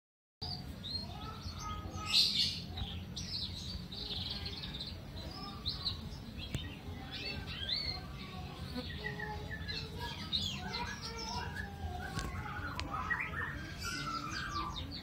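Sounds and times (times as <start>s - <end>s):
small birds chirping: 0.4s - 15.0s.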